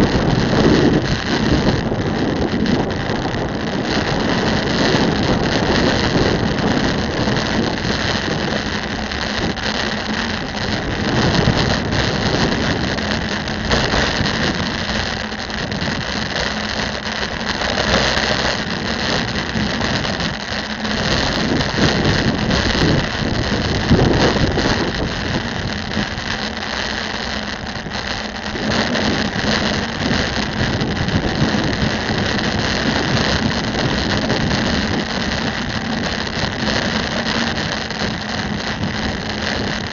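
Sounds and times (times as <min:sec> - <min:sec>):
road traffic noise: 0:00.0 - 0:39.9
wind on microphone: 0:00.0 - 0:39.9.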